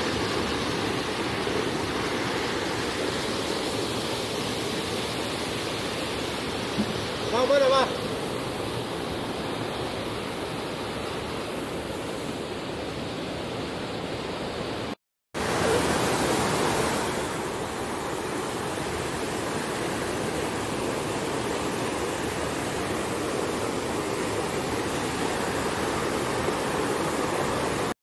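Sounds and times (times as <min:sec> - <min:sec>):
water rushing over rocks: 0:00.0 - 0:13.1, 0:14.1 - 0:28.0.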